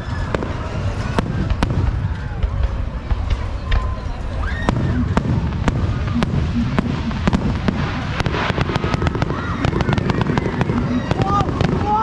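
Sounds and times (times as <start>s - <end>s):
low rumble: 0.0s - 11.8s
fireworks bangs and crackles: 0.0s - 12.0s.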